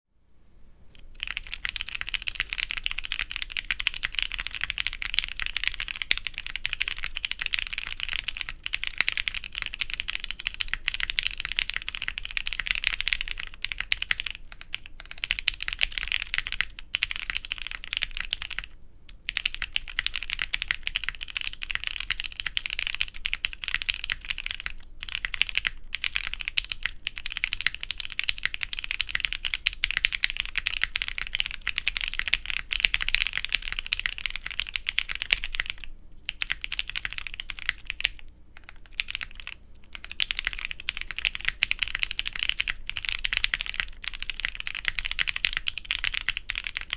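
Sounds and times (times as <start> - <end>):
mechanical keyboard typing: 1.0 - 46.9.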